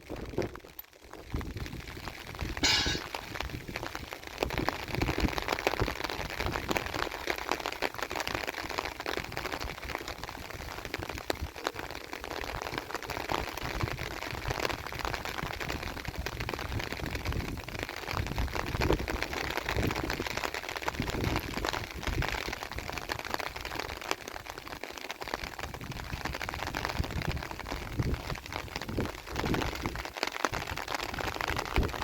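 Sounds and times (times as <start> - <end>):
rain patter: 0.0 - 32.0.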